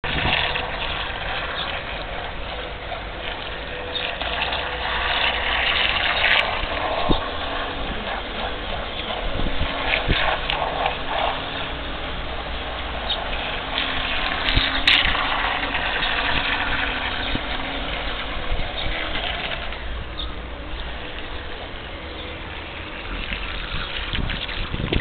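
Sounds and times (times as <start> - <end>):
propeller churning water: 0.0 - 25.0
thin steady whine: 0.0 - 25.0
small motor running: 0.1 - 25.0.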